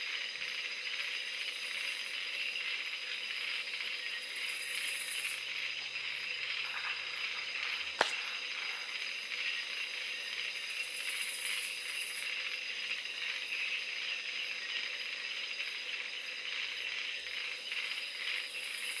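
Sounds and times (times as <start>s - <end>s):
insects buzzing and trilling: 0.0s - 19.0s.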